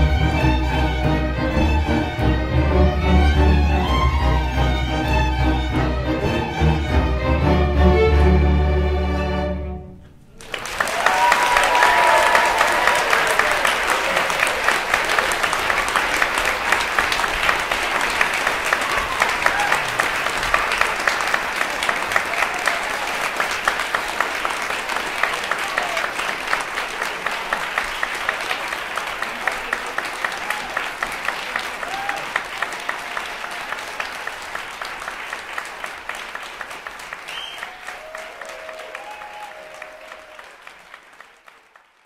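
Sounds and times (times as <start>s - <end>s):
audience applauding: 0.0s - 7.6s, 10.3s - 42.0s.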